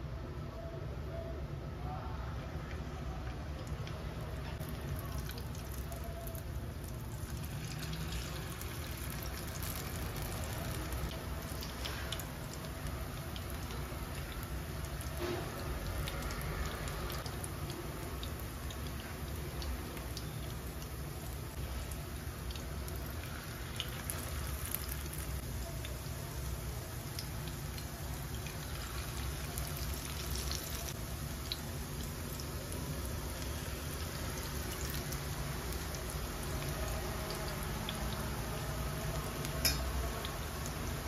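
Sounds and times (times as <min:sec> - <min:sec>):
batter sizzling in hot oil: 0:04.6 - 0:41.0.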